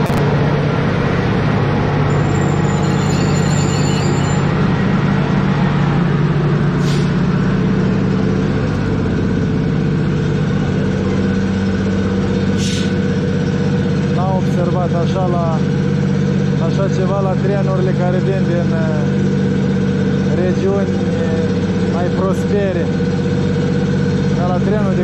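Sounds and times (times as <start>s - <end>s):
electric locomotive humming: 0.0s - 25.0s.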